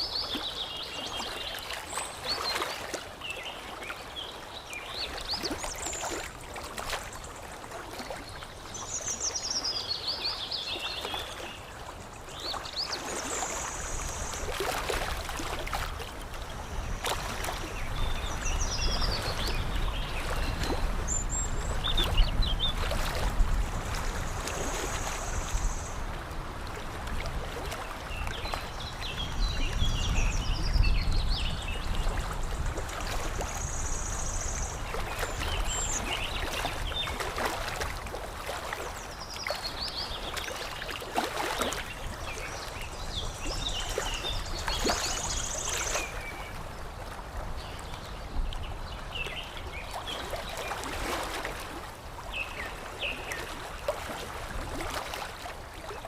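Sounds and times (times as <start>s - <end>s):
water lapping and splashing: 0.0s - 56.0s.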